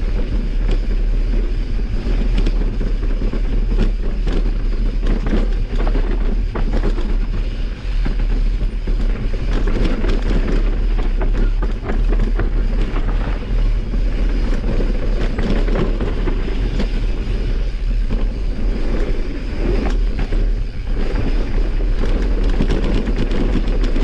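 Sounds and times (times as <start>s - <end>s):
bike rattling over rough trail: 0.0s - 24.0s
wind rumble on microphone: 0.0s - 24.0s.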